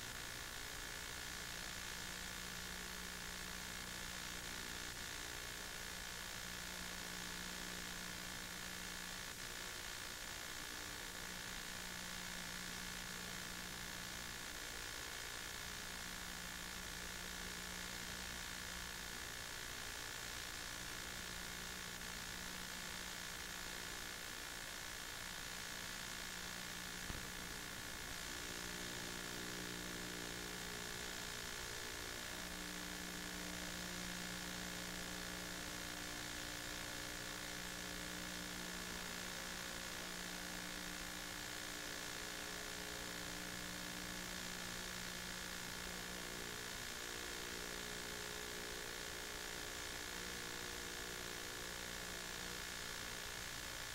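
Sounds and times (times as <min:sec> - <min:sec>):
electrical hum and hiss: 0:00.0 - 0:53.9
faint buzz: 0:00.0 - 0:53.9.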